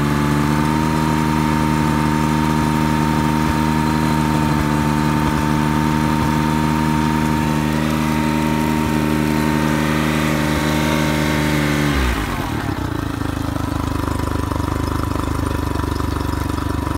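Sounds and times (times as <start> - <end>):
outboard motor running: 0.0 - 16.9.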